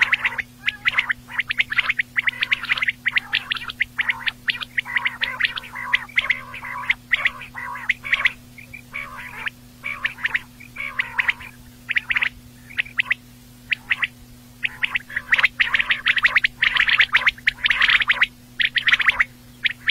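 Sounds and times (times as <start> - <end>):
faint steady hum: 0.0 - 19.9
quail chirping: 0.0 - 19.9.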